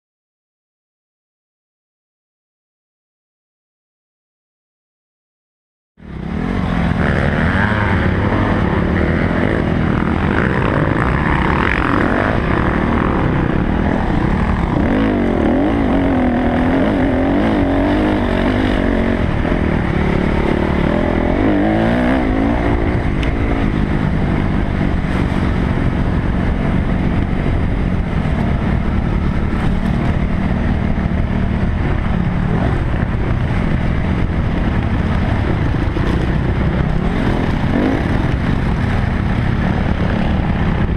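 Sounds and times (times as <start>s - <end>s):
dirt bike engine revving: 6.1s - 40.9s.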